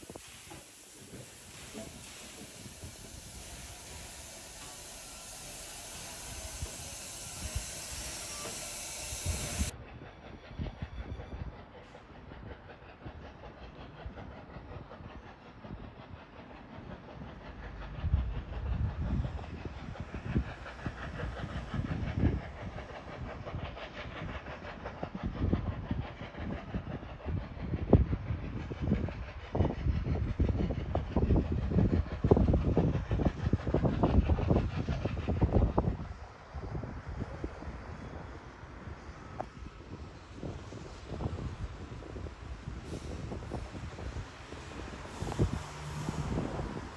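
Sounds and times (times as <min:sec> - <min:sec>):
distant train rumbling: 0:00.0 - 0:46.9
steam locomotive hissing steam: 0:00.0 - 0:46.9.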